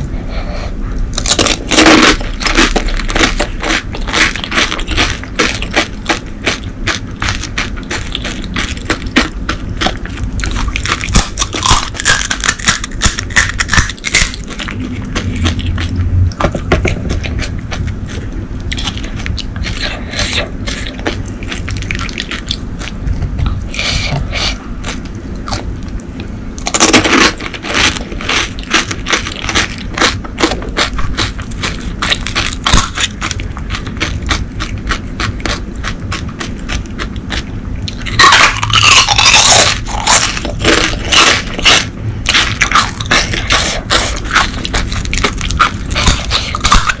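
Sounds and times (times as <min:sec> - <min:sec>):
crunching and chewing: 0:00.0 - 0:47.0.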